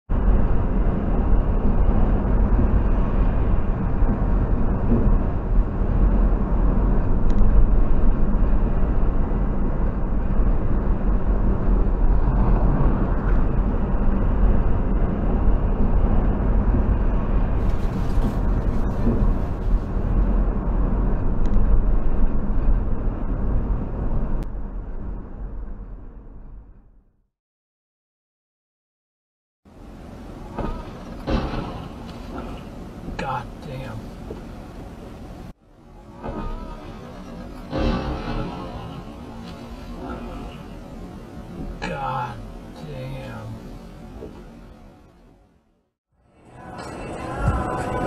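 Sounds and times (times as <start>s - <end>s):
car road noise at highway speed: 0.1s - 27.0s, 29.7s - 48.0s.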